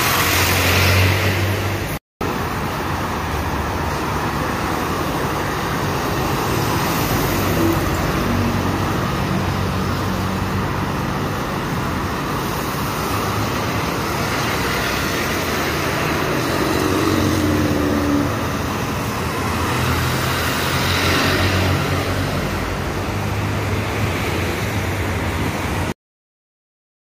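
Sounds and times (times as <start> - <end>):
bus diesel engines passing: 0.0 - 26.0
road traffic noise: 0.0 - 26.0.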